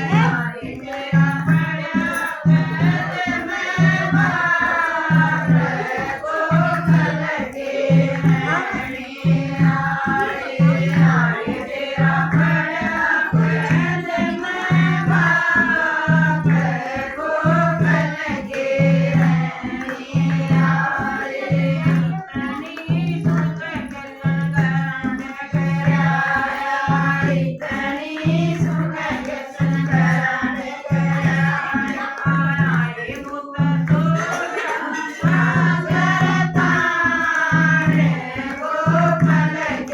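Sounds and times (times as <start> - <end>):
voices singing: 0.0 - 39.9.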